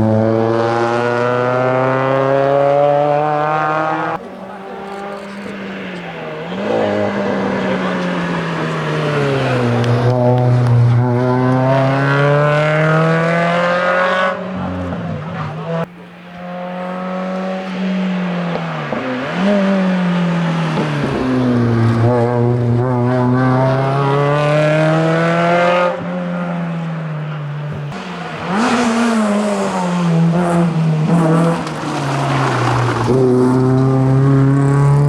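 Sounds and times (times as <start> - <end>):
car engine accelerating hard: 0.0 - 35.0.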